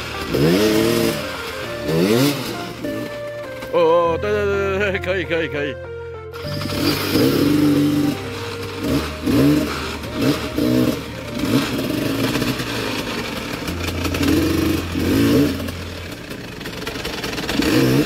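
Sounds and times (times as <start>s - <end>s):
dirt bike engine revving: 0.0s - 3.8s, 6.3s - 18.0s.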